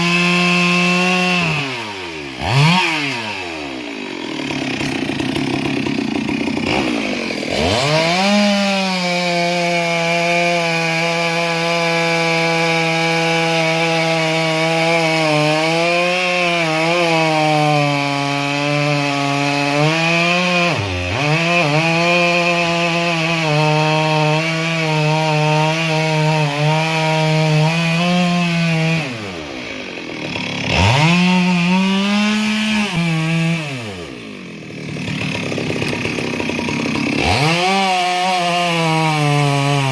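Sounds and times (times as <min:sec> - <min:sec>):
chainsaw cutting: 0:00.0 - 0:39.9.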